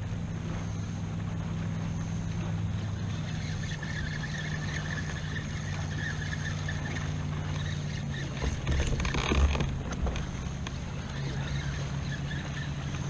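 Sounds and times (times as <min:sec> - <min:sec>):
motorboat engine running: 0:00.0 - 0:13.0
low bumps: 0:02.3 - 0:13.0.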